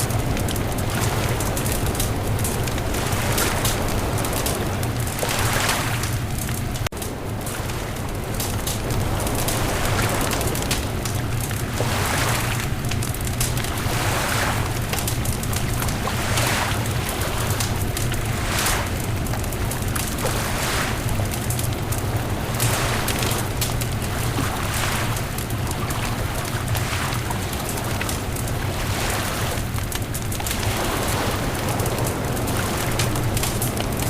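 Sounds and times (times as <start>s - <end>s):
bonfire crackling: 0.0s - 34.0s.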